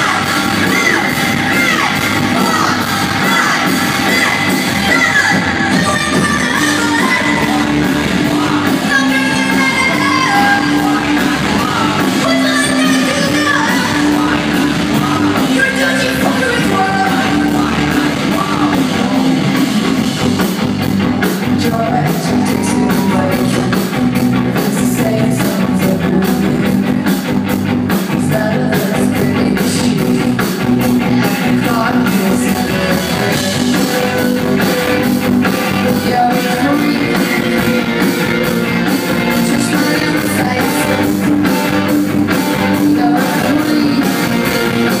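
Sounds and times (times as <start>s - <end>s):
woman singing: 0.0s - 19.7s, 21.5s - 26.9s, 28.1s - 30.4s, 31.1s - 34.8s, 35.6s - 38.0s, 39.3s - 41.1s, 42.6s - 45.0s
bass guitar: 0.0s - 45.0s
drums and cymbals: 0.0s - 45.0s
electric guitars: 0.0s - 45.0s.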